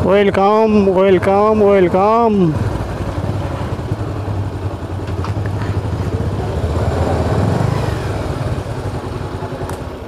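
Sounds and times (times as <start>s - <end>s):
motorcycle engines rumbling: 0.0s - 10.0s.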